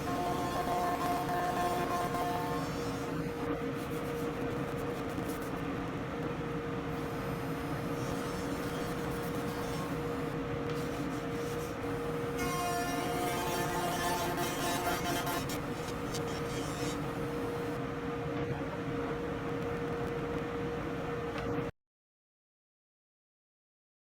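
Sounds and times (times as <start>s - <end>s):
machine running with steady tone: 0.0s - 21.7s.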